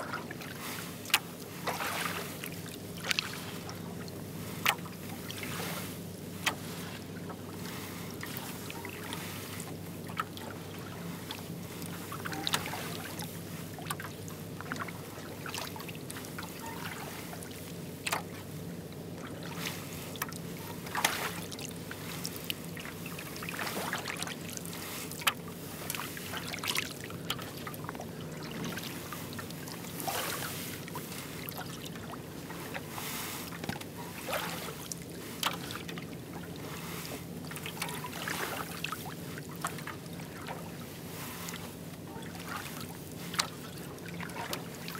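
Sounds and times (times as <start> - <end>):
water trickling off paddle: 0.0 - 18.4, 19.1 - 44.9
paddle splashing in water: 0.0 - 18.5, 19.1 - 44.9
steady low hum: 0.0 - 44.9.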